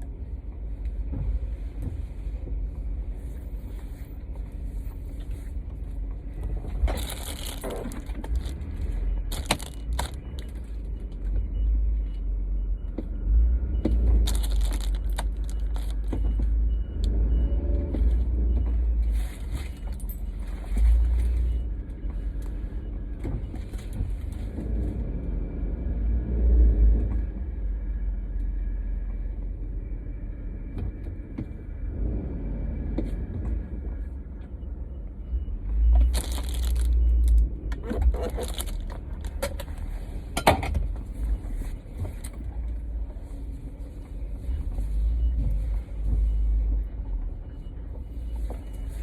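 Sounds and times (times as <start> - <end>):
car driving rumble inside cabin: 0.0 - 49.0.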